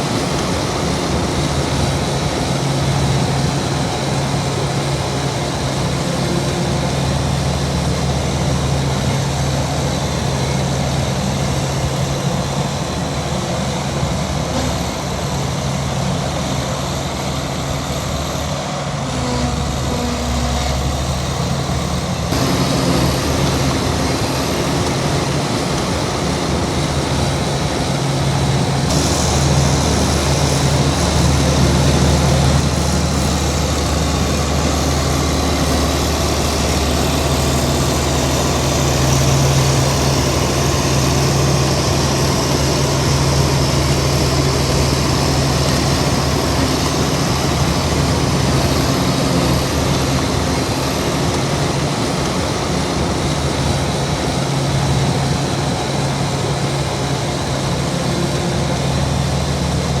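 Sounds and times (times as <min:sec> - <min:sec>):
heavy diesel engine droning: 0:00.0 - 1:00.0.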